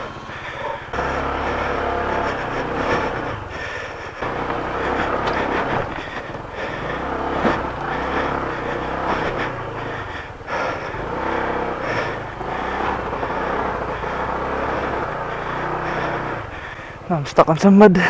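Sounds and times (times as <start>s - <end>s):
scooter engine revving: 0.0s - 17.7s
tyres and bodywork rattling: 0.0s - 18.0s.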